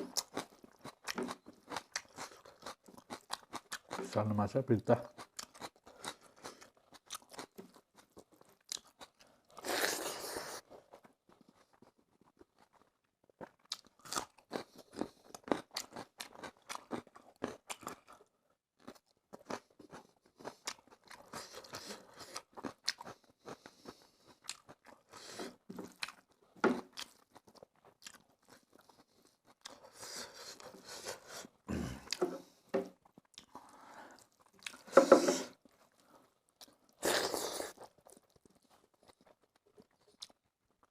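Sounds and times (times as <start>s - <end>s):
person chewing food: 0.0s - 4.3s, 5.0s - 40.9s.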